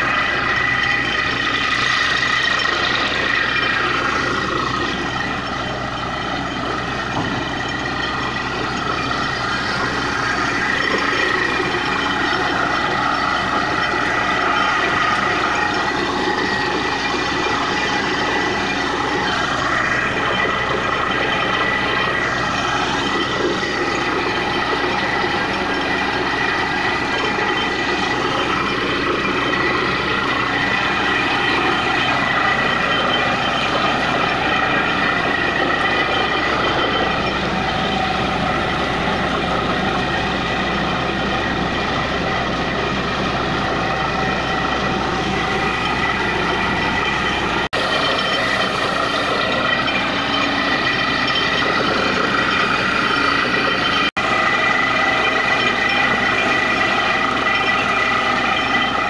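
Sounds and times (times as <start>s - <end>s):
drilling rig engine and compressor: 0.0s - 59.0s
steady high tone: 0.0s - 59.0s.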